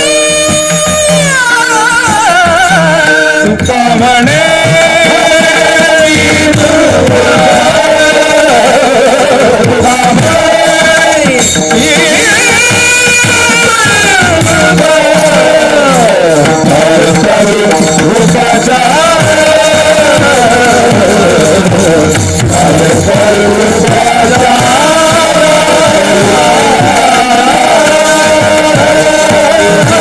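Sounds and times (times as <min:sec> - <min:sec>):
person singing devotional song: 0:00.0 - 0:30.0
tabla drum beat: 0:00.0 - 0:30.0.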